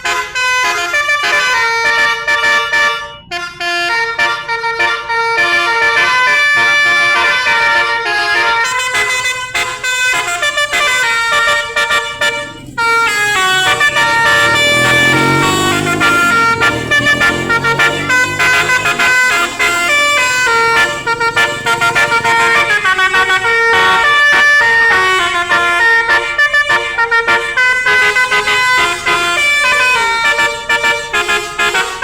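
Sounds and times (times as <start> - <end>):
musical bus horn playing a tune: 0.0 - 32.0.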